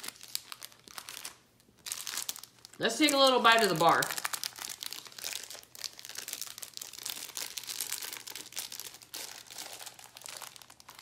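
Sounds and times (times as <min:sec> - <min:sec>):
cellophane wrapper crinkling: 0:00.0 - 0:11.0.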